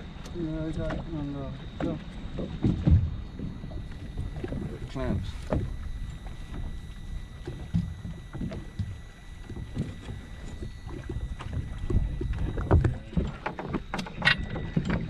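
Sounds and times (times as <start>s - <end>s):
wind rumble on microphone: 0.0s - 15.0s
faint steady high tone: 0.2s - 2.6s, 3.2s - 15.0s.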